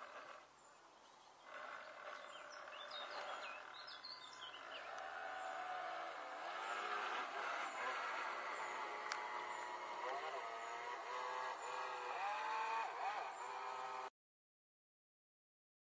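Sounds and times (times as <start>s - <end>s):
model boat motor whirring: 0.0s - 0.6s, 1.4s - 14.1s
birds chirping: 0.0s - 14.1s.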